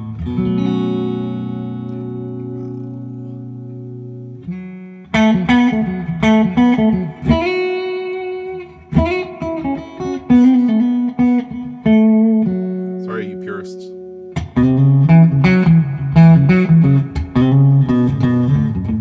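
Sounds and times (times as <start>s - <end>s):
electric guitar chord ringing: 0.0s - 19.0s
electric guitar single-note licks: 0.0s - 19.0s.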